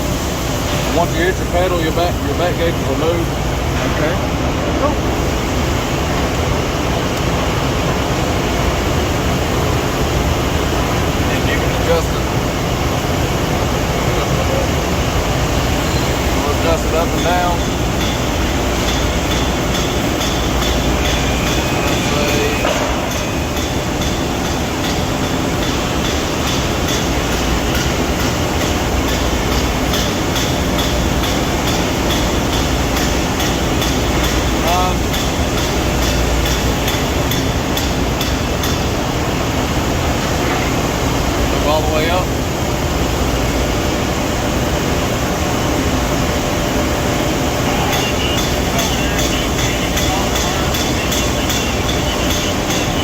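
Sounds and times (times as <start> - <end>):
hydraulic pump motor hum and hiss: 0.0 - 53.0.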